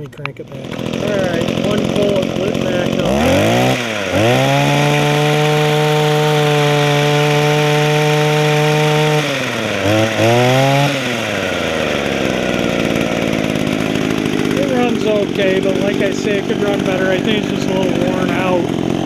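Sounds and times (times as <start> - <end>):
hedge trimmer engine revving: 0.0 - 19.0.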